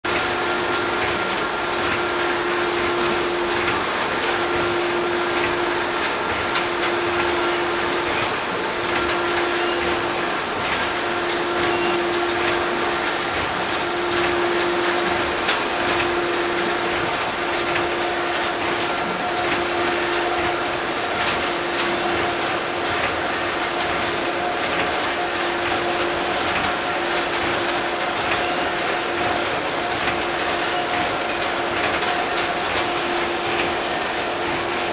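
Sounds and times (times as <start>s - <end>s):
machine hum: 0.1s - 34.9s
packing machine clattering: 0.1s - 34.9s.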